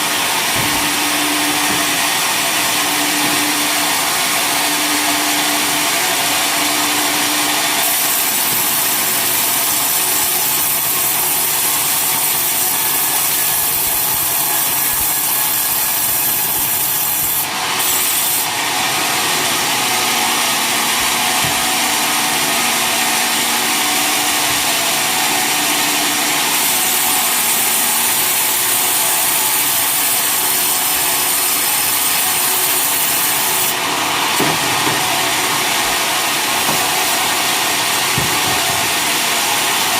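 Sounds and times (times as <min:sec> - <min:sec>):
saw blade cutting a log: 0:00.0 - 0:39.9.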